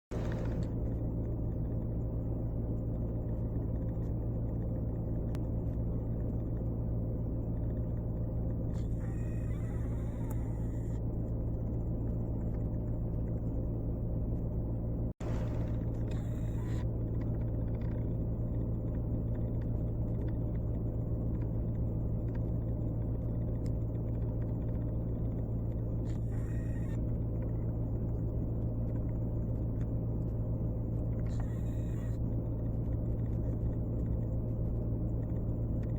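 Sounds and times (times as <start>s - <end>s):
constant hum: 0.0s - 35.9s
low mechanical rumble: 0.0s - 35.9s.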